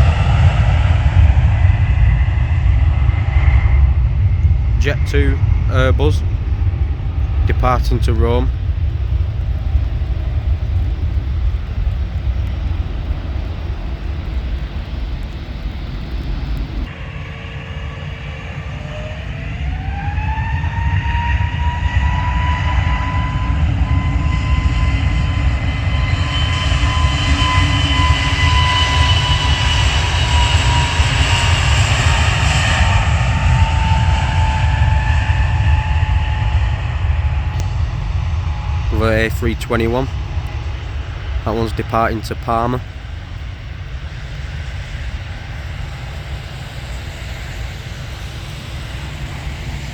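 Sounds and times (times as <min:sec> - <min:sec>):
jet engines spooling up: 0:00.4 - 0:49.9.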